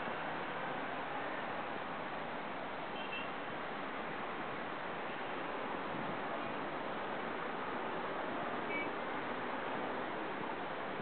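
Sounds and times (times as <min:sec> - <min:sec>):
distant city traffic: 0:00.0 - 0:11.0.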